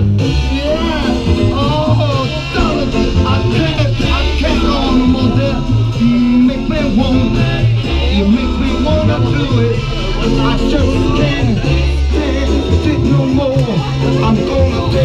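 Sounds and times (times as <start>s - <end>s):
soul music over sound system: 0.0s - 15.0s.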